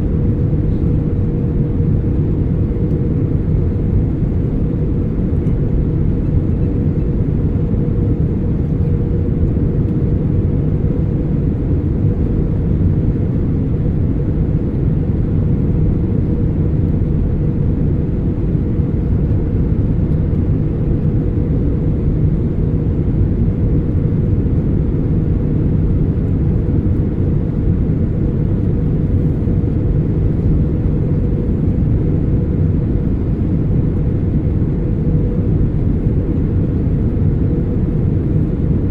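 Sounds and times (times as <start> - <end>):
aircraft cabin rumble: 0.0 - 38.9
faint constant hum: 0.0 - 38.9.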